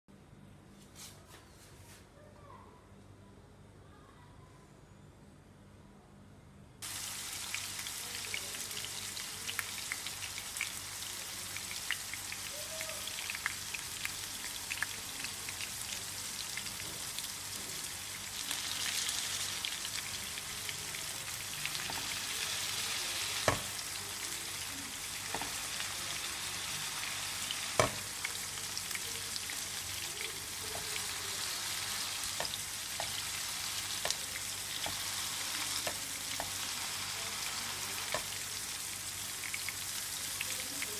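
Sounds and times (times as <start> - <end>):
meat sizzling in hot oil: 6.8 - 40.9.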